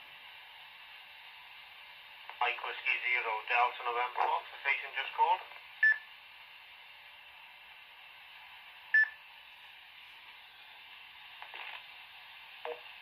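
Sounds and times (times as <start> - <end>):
radio receiver hiss: 0.0 - 13.0.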